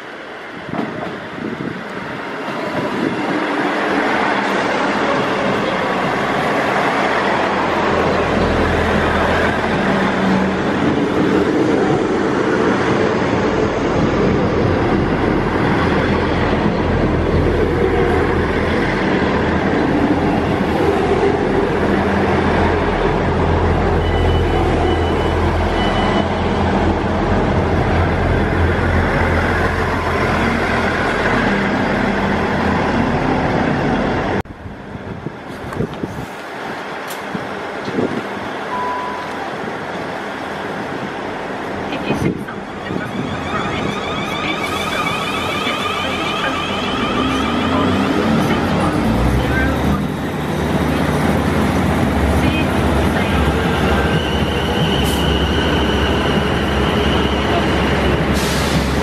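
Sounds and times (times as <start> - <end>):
train passing: 0.0 - 59.0.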